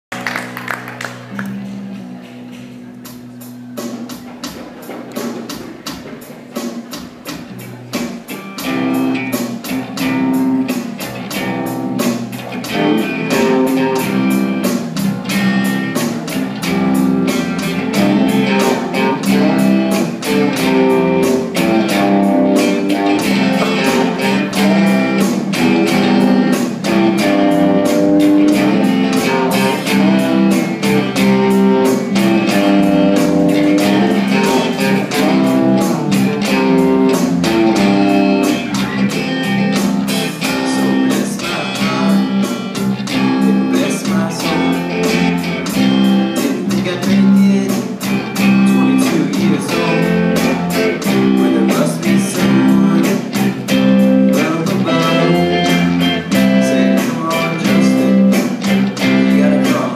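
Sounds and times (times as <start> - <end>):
live rock band playing: 0.1 - 59.9.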